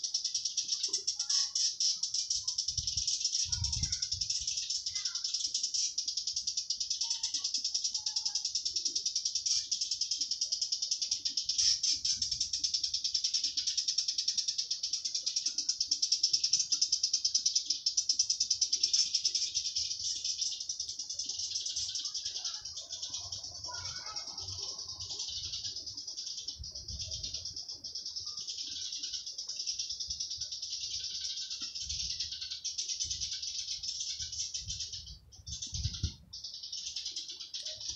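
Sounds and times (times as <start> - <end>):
cicadas buzzing: 0.0 - 37.9.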